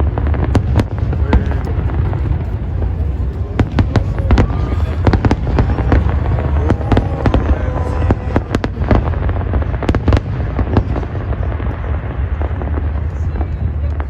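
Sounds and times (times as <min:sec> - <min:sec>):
fireworks bangs and crackles: 0:00.0 - 0:14.0
low rumble: 0:00.0 - 0:14.0.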